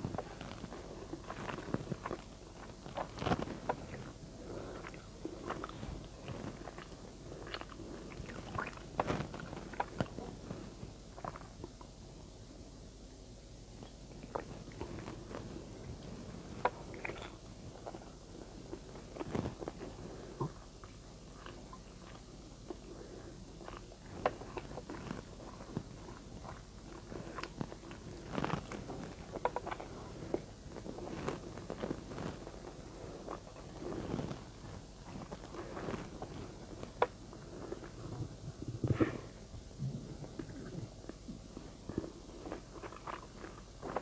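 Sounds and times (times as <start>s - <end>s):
person chewing and smacking: 0.0s - 12.0s, 13.8s - 39.2s, 39.9s - 44.0s.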